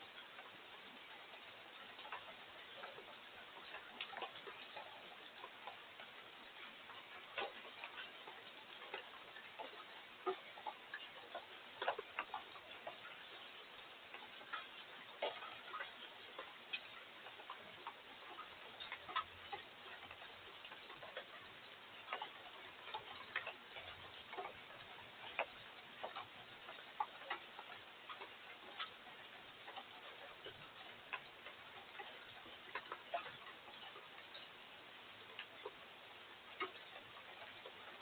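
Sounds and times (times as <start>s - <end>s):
drips ticking on hard surface: 0.0s - 38.0s
faint steady hiss: 0.0s - 38.0s.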